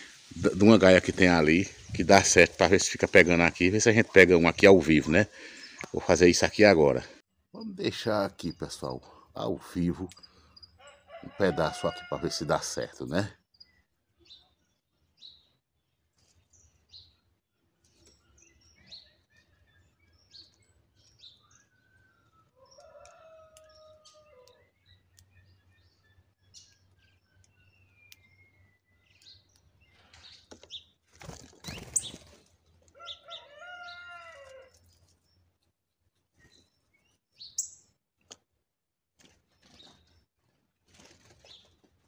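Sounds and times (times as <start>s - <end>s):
small birds chirping: 0.0s - 38.5s, 39.2s - 42.0s.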